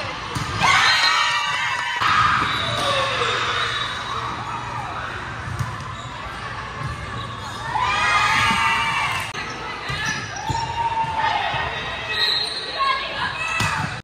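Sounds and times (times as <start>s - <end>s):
players shouting in a gymnasium: 0.0s - 14.0s.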